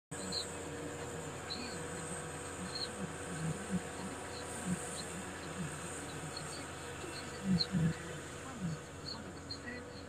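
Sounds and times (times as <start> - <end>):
excavator diesel engine: 0.1 - 10.0.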